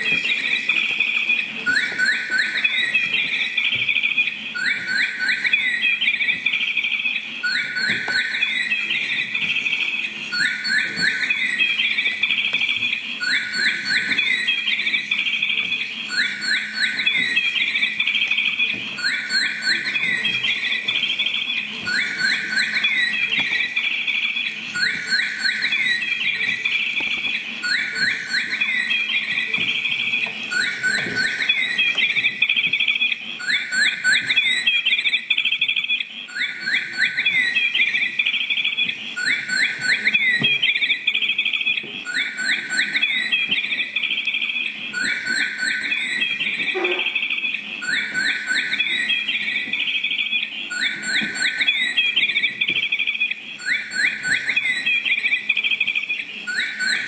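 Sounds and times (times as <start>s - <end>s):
electronic birdsong alarm chirps: 0.0s - 57.0s.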